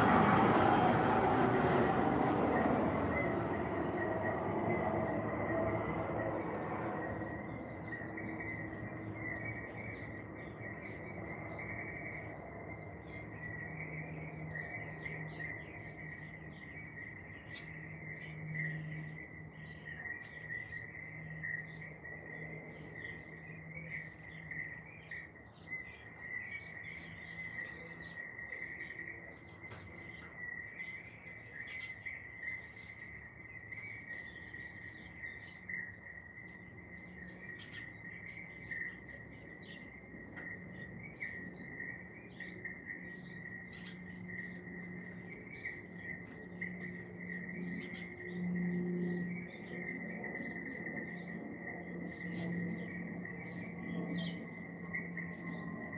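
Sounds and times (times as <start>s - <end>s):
bird chirps: 6.5s - 55.9s.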